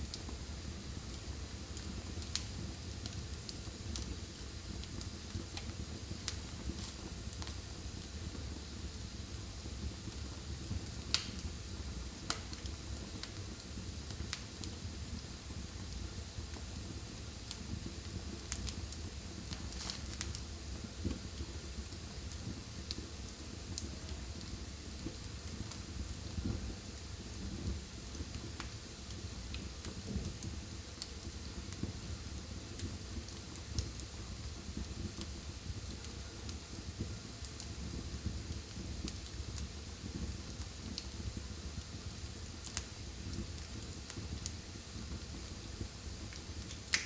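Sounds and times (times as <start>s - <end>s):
fire crackles and pops: 0.0s - 47.0s
fire rumble and hiss: 0.0s - 47.0s.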